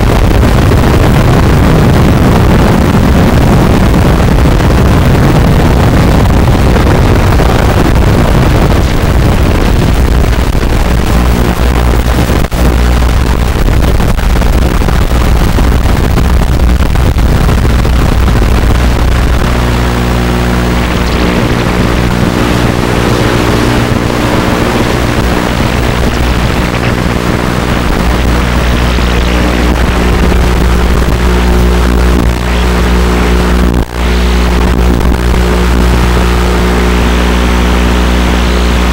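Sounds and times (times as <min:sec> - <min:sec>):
drone motors humming: 0:00.0 - 0:38.9.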